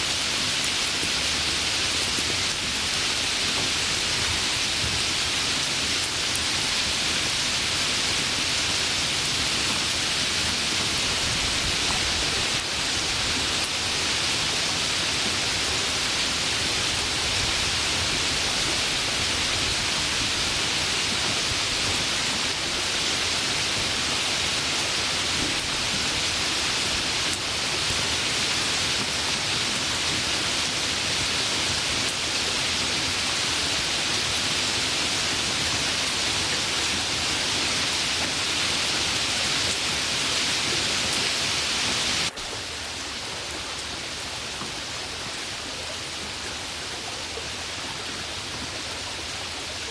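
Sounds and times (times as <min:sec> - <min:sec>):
rain hiss: 0:00.0 - 0:49.9.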